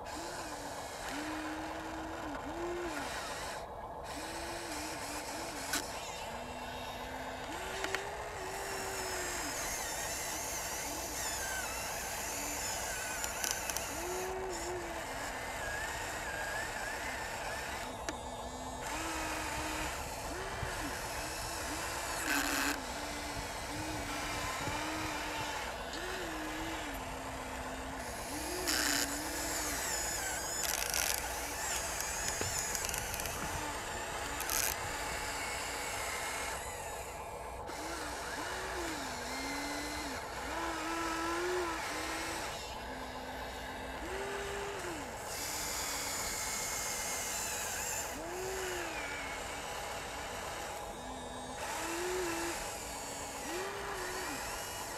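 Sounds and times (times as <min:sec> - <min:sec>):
electric motors whining: 0:00.0 - 0:54.9.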